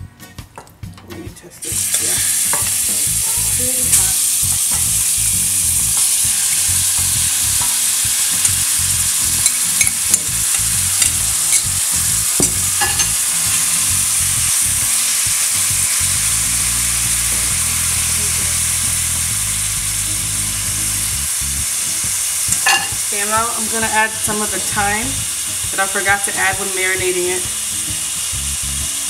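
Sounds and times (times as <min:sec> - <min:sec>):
chicken sizzling in a pan: 0:01.6 - 0:29.0.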